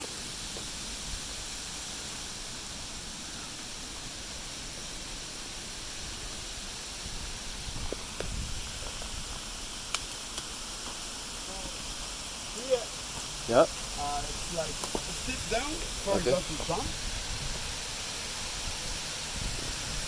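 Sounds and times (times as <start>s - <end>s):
waterfall rushing hiss: 0.0s - 20.0s.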